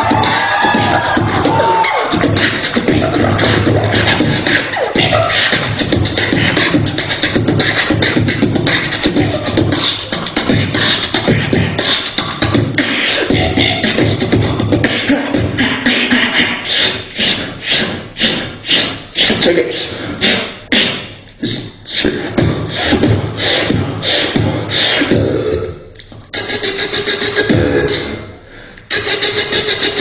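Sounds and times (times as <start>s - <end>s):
beatboxing vocal percussion: 0.0s - 30.0s.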